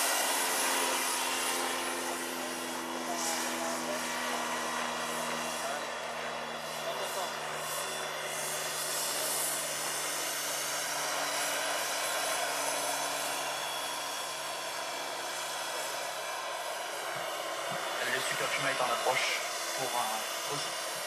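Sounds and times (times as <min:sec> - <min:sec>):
model helicopter turbine whine: 0:00.0 - 0:21.0.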